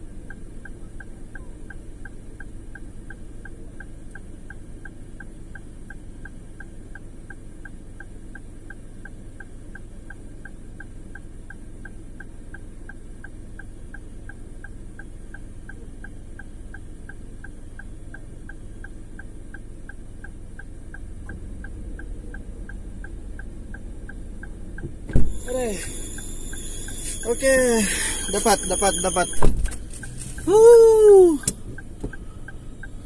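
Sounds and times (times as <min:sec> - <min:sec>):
car engine idling: 0:00.0 - 0:33.0
indicator relay ticking: 0:00.0 - 0:33.0.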